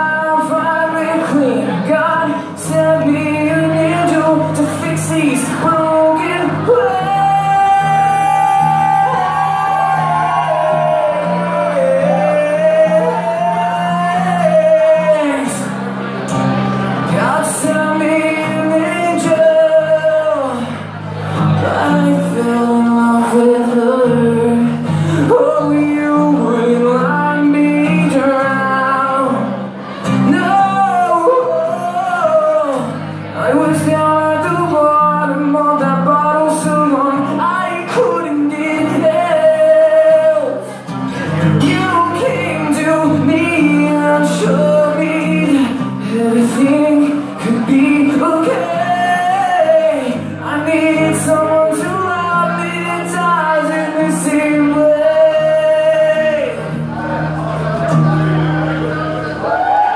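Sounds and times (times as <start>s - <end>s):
guitar chords: 0.0s - 59.9s.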